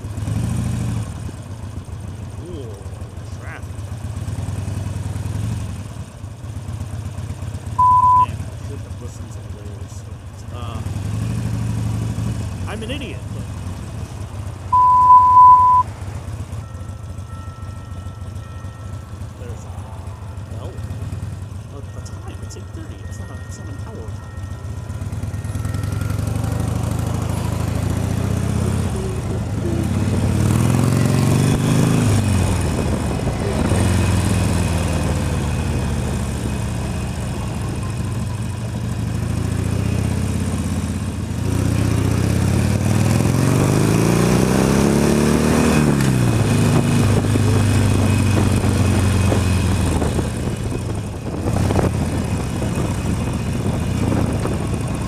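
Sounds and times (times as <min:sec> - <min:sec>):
motorcycle engine revving: 0:00.0 - 0:17.4, 0:18.1 - 0:22.1, 0:24.1 - 0:55.0.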